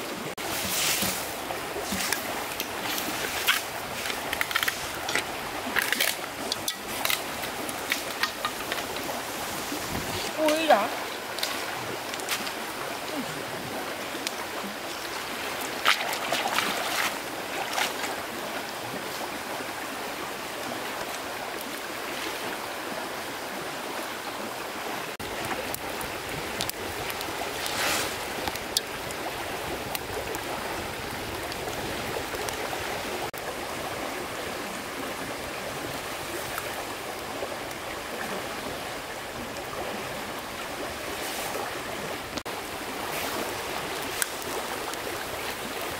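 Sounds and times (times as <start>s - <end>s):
stream water running: 0.0s - 45.9s.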